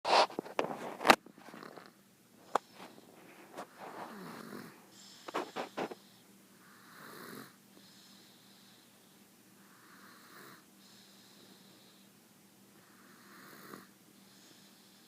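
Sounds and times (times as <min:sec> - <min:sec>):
baby snoring softly: 0:01.4 - 0:12.1, 0:12.8 - 0:15.0.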